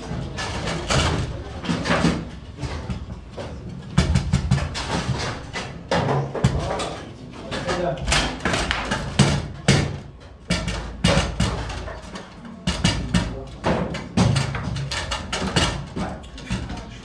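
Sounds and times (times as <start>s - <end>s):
foosball clacks and knocks: 0.0s - 17.0s.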